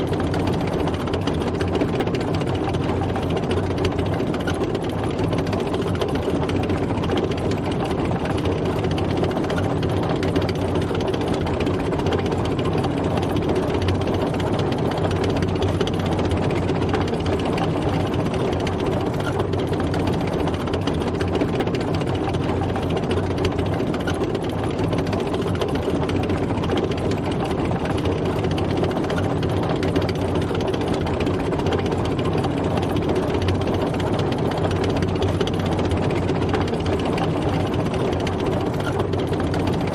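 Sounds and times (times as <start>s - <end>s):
tank engine and tracks: 0.0s - 39.9s.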